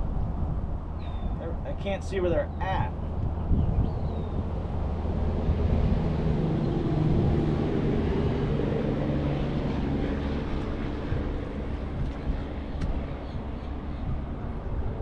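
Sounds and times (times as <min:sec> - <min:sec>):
engine drone: 0:00.8 - 0:15.0.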